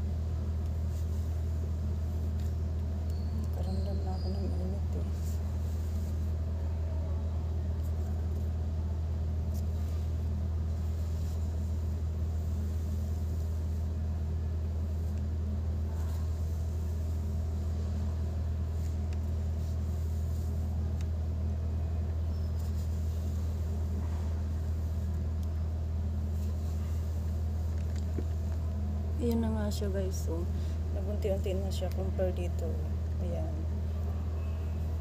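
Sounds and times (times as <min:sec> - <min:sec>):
low background hum: 0:00.0 - 0:35.0.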